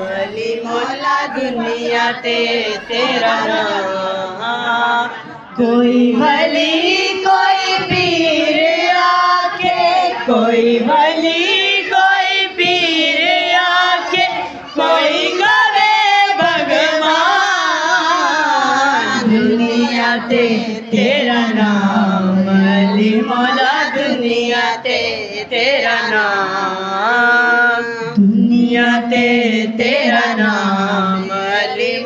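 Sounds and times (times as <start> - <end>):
person singing devotional song: 0.0 - 32.0.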